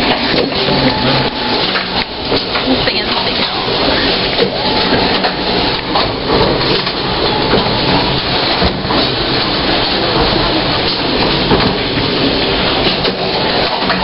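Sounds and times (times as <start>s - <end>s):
tram capsule rattling on track: 0.0s - 14.0s.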